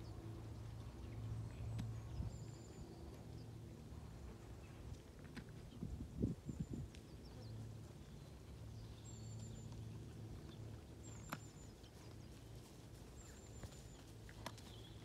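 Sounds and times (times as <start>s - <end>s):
horse hooves on turf: 0.0s - 15.0s
low steady hum: 0.0s - 15.0s.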